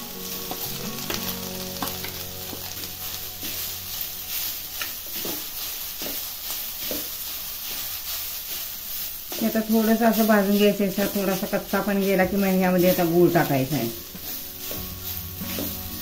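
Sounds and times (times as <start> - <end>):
coconut sizzling in hot fat: 0.0 - 16.0
spatula scraping and tapping pan: 0.4 - 16.0.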